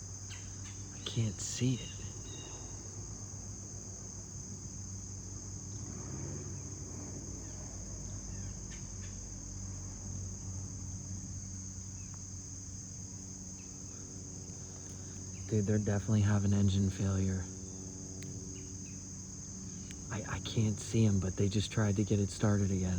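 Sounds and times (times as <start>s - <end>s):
crickets chirping: 0.0s - 22.9s
faint low hum: 0.0s - 22.9s.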